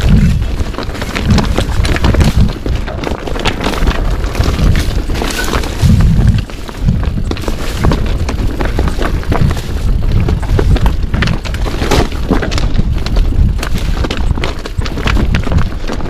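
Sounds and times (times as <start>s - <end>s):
bike clattering over rough ground: 0.0s - 16.0s
wind rumbling on microphone: 0.0s - 16.0s.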